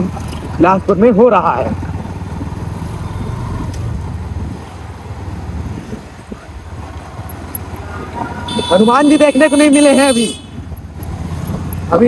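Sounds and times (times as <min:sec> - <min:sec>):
motorcycle engine and road noise: 0:00.0 - 0:12.0.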